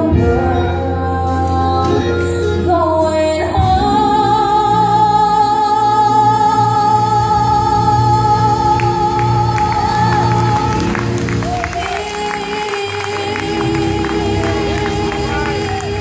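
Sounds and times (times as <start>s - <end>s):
low accompaniment chords: 0.0s - 16.0s
woman singing gospel: 0.0s - 16.0s.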